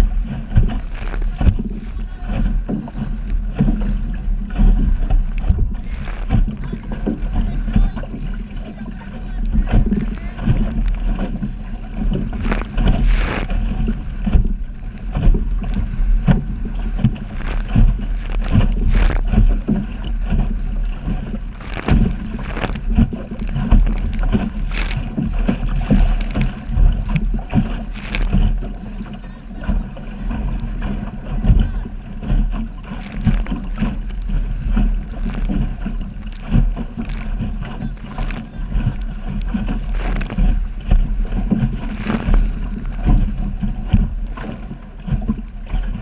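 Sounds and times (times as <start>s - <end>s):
boat hull slapping water: 0.0s - 46.0s
water splashes: 0.0s - 46.0s
wind rumble on microphone: 0.0s - 46.0s.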